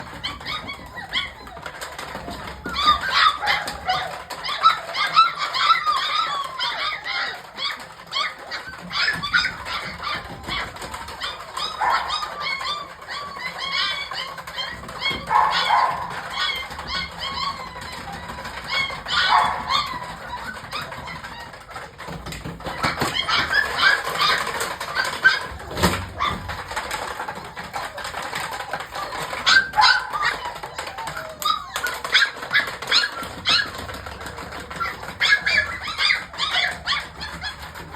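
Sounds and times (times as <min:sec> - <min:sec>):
puppies whining and squealing: 0:00.0 - 0:37.9.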